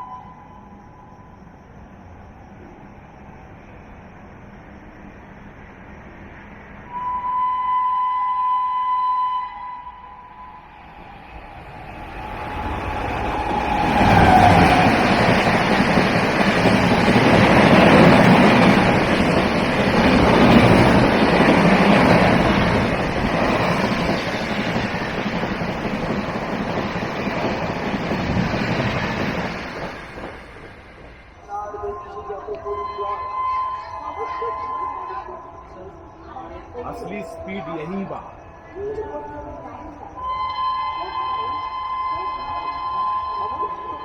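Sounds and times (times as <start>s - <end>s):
express train passing: 0.0s - 44.0s.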